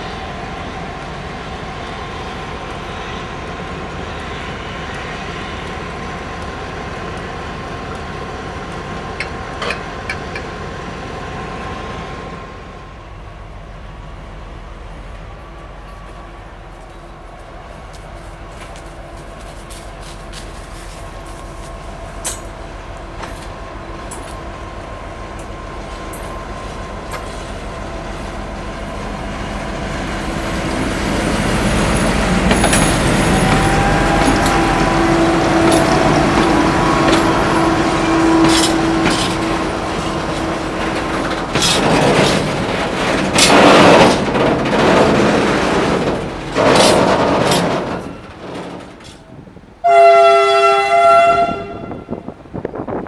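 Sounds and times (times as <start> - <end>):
train wheels clattering on rails: 0.0 - 10.8, 15.1 - 49.7
diesel locomotive engine drone: 0.0 - 53.0.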